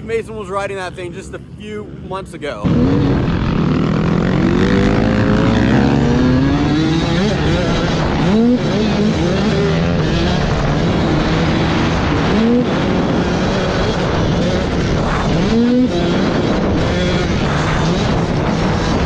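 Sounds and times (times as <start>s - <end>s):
dirt bike engine revving: 2.6s - 19.0s.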